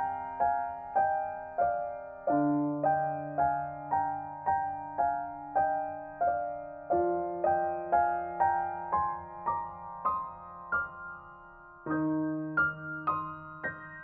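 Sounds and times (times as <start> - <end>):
solo piano music: 0.0 - 14.0.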